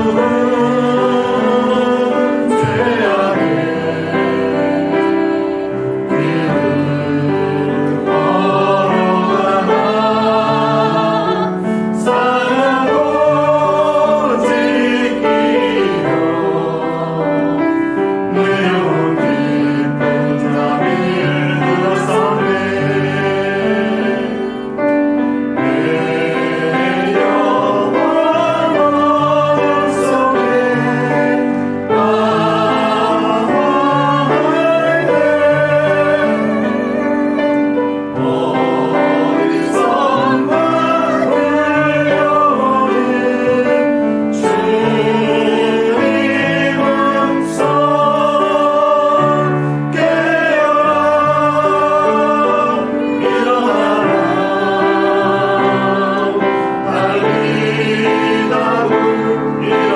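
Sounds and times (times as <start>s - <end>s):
group singing worship song: 0.0s - 59.9s
piano accompaniment: 0.0s - 59.9s.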